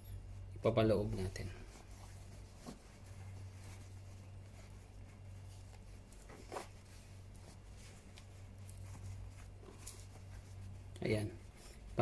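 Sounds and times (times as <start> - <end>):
steady low hum: 0.0 - 12.0
fabric rustling: 0.2 - 12.0.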